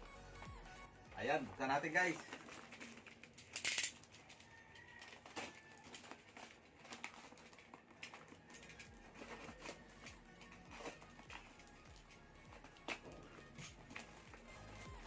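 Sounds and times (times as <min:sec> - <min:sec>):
packaging rustling and crinkling: 0:01.6 - 0:14.7
small clicks and crackles: 0:01.6 - 0:14.7.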